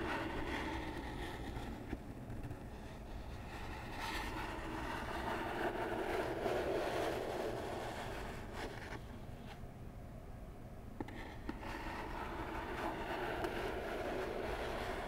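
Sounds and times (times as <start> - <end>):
fingernails scratching cardboard: 0.0 - 9.0, 11.1 - 15.0.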